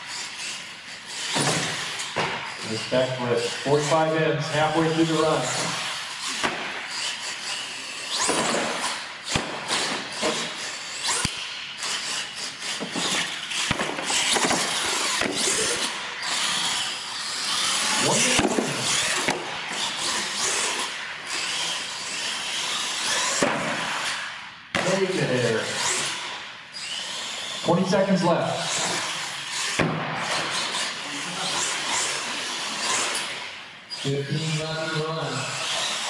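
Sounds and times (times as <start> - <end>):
tyres on concrete floor: 0.0 - 36.0.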